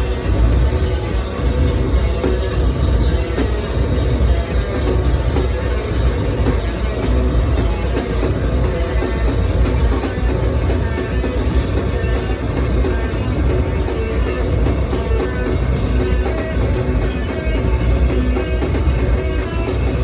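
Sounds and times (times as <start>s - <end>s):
distorted bass guitar: 0.0s - 20.0s
rapid drum kit: 0.0s - 20.0s.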